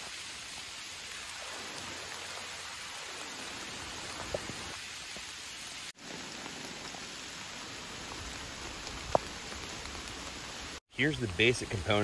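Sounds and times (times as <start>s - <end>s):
rain pattering on leaves: 0.0s - 12.0s.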